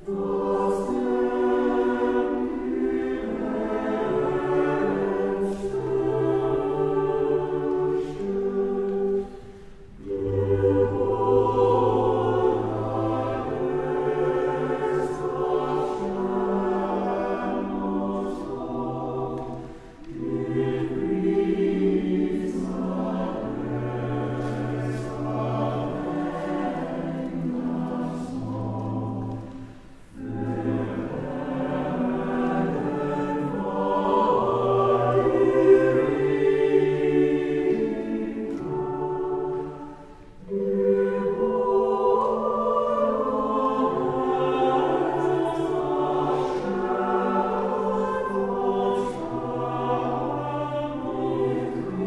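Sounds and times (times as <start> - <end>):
mixed choir singing a hymn: 0.0 - 52.0.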